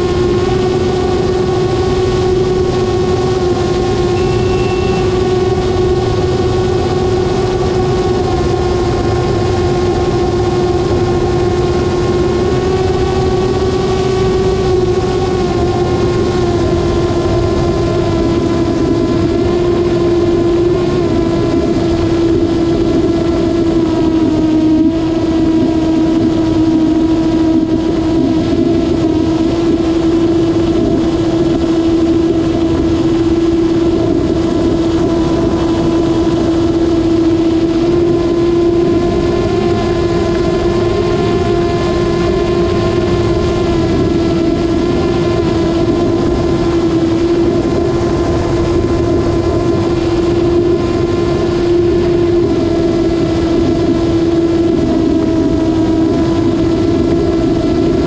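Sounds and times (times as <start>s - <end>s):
model plane motor humming: 0.0s - 58.0s
wind on microphone: 0.0s - 58.0s.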